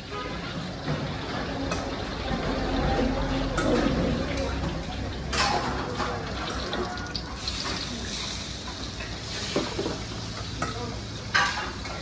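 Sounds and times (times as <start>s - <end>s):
batter frying hiss: 0.0s - 12.0s
hot oil trickling: 0.0s - 12.0s.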